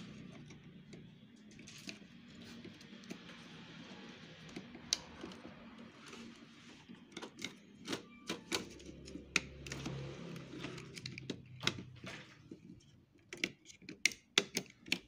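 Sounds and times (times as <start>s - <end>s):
plastic parts clicking and tapping: 0.0s - 15.0s.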